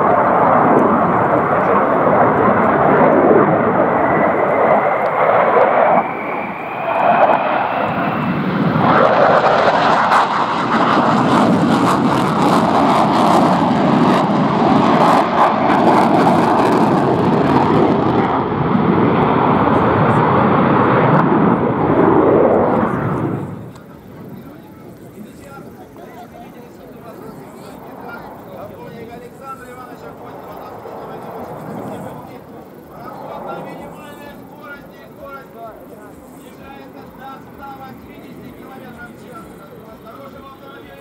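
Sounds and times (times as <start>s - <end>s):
fighter jet engines roaring: 0.0s - 41.0s.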